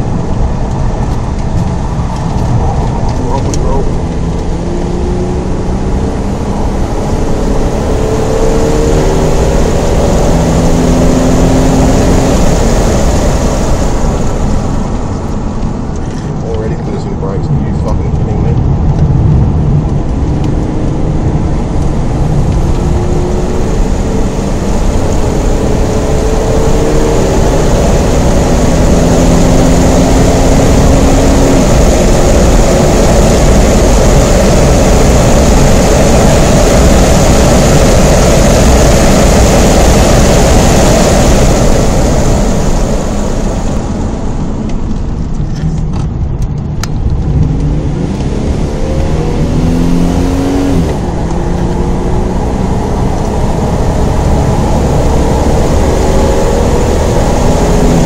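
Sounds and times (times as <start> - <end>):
car engine accelerating: 0.0 - 58.0
wind and tyre noise: 0.0 - 58.0.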